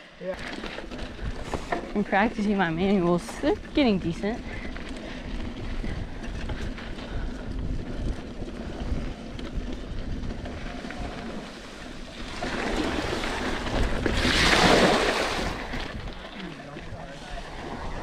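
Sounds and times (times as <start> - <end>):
bike tyres rolling on dirt: 0.0 - 18.0
wind buffeting microphone: 0.5 - 18.0.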